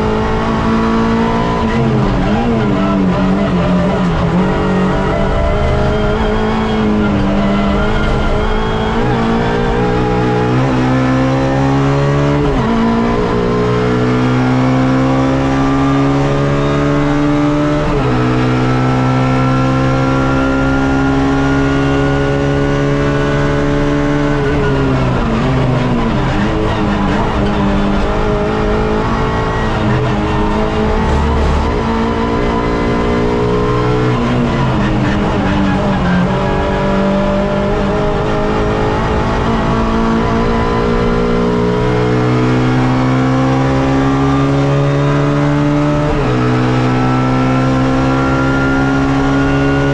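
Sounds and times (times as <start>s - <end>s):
race car engine accelerating: 0.0s - 49.9s.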